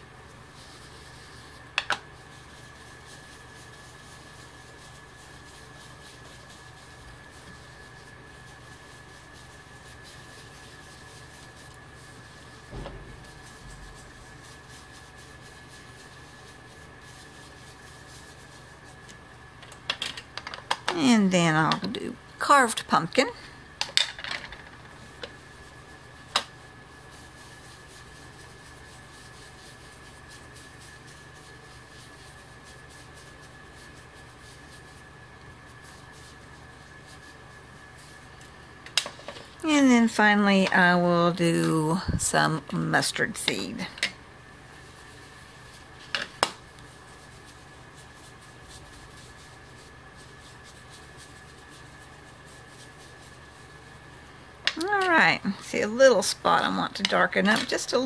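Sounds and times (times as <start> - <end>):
foam brush rubbing on stencil: 0.0 - 19.6, 24.8 - 58.0
low room hum: 0.0 - 58.0.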